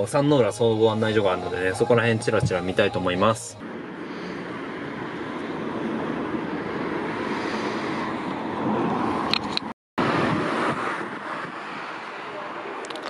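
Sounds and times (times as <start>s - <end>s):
car road and running noise: 1.8s - 13.0s.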